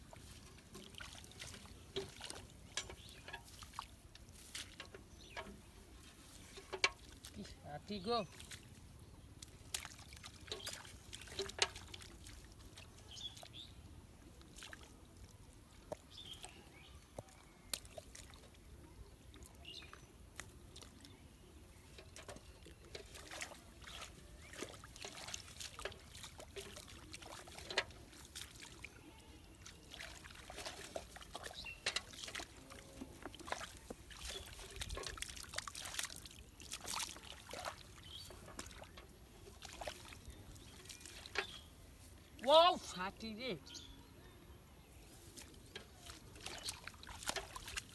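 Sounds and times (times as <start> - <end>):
small water splashes and squelches: 0.0 - 44.0, 44.8 - 47.9.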